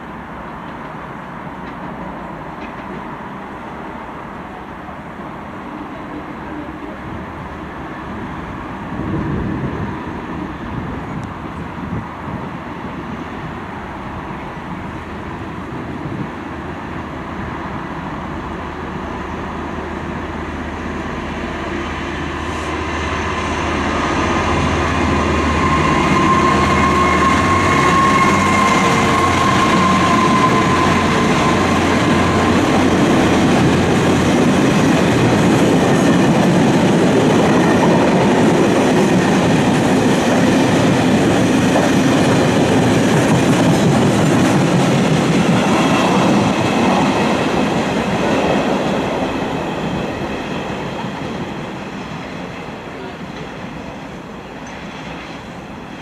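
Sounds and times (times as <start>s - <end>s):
diesel locomotive running: 0.0s - 56.0s
freight train running past: 0.0s - 56.0s.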